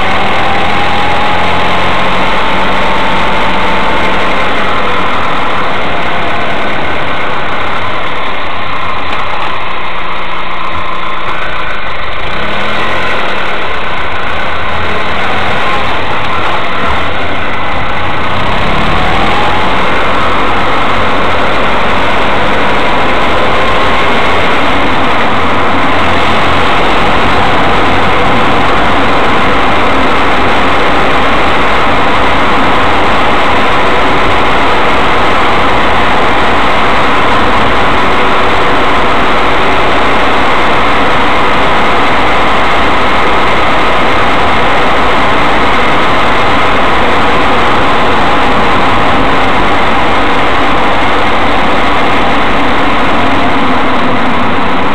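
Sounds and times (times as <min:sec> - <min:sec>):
car engine running: 0:00.0 - 0:54.9
road noise: 0:00.0 - 0:54.9.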